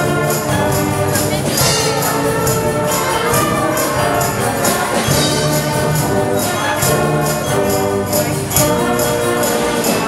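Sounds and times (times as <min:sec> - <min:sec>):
concert band playing: 0:00.0 - 0:10.0
high percussion strokes: 0:00.0 - 0:10.0.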